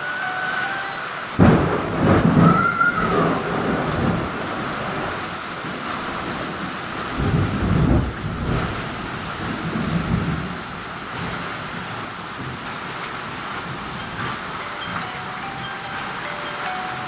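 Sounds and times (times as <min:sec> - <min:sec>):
heavy rain pouring: 0:00.0 - 0:17.0
thunder rumbling: 0:01.4 - 0:16.4.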